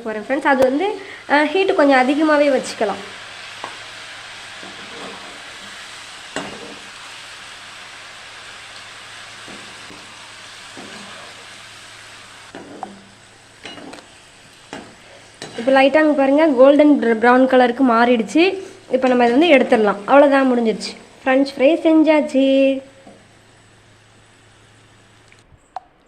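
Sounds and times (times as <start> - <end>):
potatoes sizzling in hot oil: 0.0 - 25.3.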